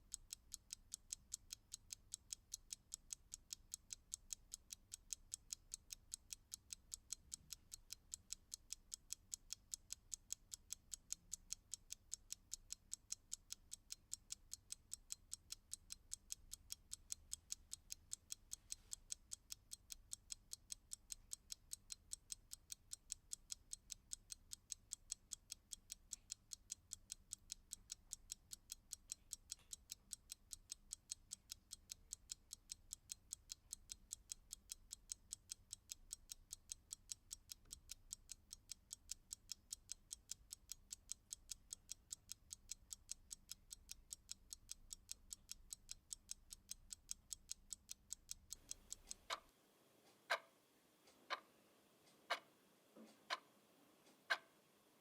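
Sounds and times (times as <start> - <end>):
clock ticking fast: 0.0 - 54.5
slow loud clock tick: 0.0 - 54.6.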